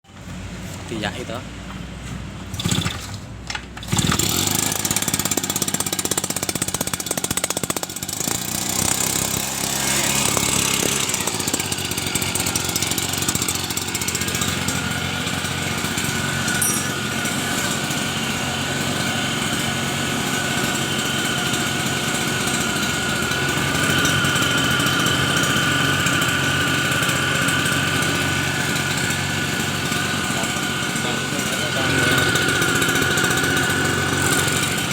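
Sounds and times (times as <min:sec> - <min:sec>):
mist blower two-stroke engine: 0:02.4 - 0:34.9.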